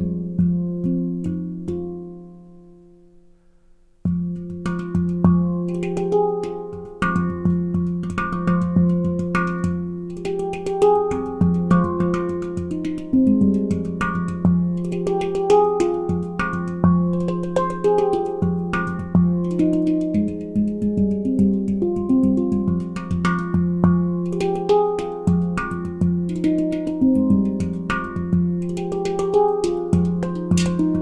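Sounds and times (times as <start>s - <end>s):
deep low handpan note: 0.0s - 2.8s, 4.0s - 31.0s
handpan notes played by hand: 0.0s - 3.1s, 4.0s - 31.0s.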